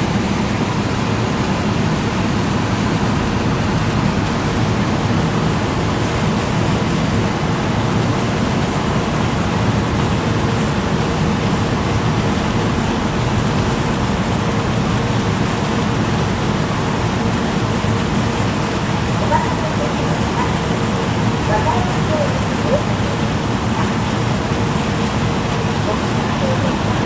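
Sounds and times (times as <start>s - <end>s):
ferry engines and propeller wash: 0.0s - 27.0s.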